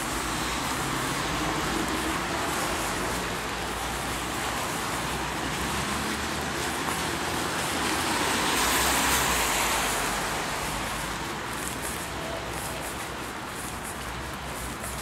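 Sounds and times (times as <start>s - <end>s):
traffic noise: 0.0s - 15.0s
tyres hissing on wet road: 0.0s - 15.0s.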